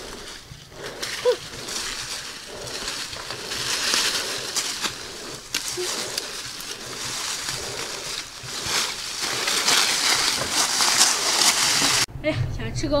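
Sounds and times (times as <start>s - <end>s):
branch dragged through leaves: 0.0s - 12.1s
footsteps crunching dry leaves: 0.0s - 12.1s
twigs snapping: 0.0s - 12.1s.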